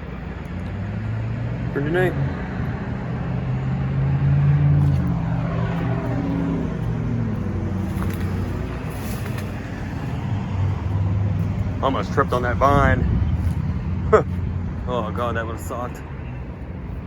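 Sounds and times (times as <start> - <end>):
vehicle engine passing by: 0.5 - 17.0.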